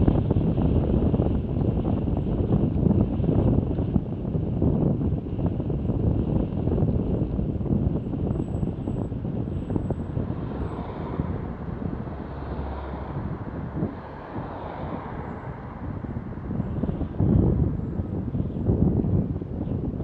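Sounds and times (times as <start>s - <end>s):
road traffic: 0.0s - 20.0s
wind rumbling on microphone: 0.0s - 20.0s.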